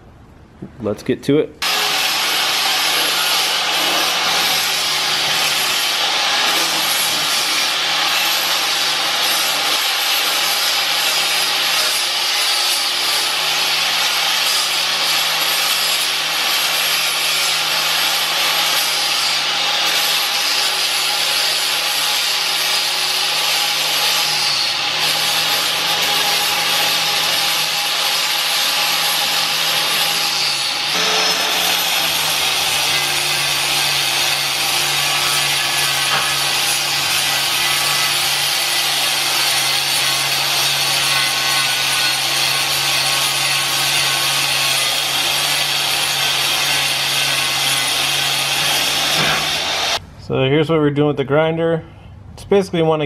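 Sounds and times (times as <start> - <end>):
electric grinder grinding metal: 1.6 - 50.0.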